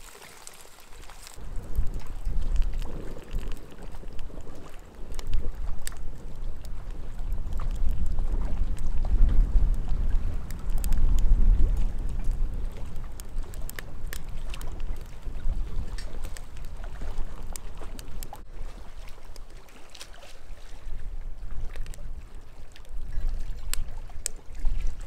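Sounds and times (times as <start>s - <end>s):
firewood crackling and popping: 0.0s - 18.5s, 21.7s - 24.9s
wind buffeting microphone: 1.4s - 19.5s, 20.6s - 25.0s.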